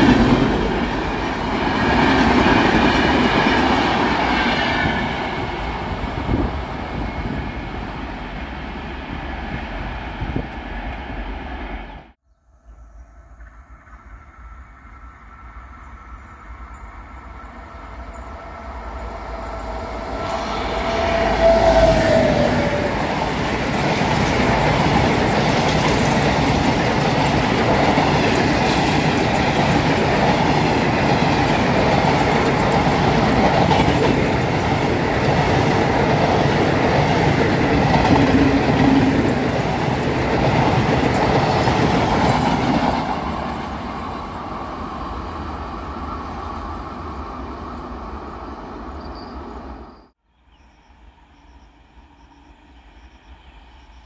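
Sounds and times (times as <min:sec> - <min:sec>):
train passing close by: 0:00.0 - 0:12.2, 0:13.0 - 0:54.0.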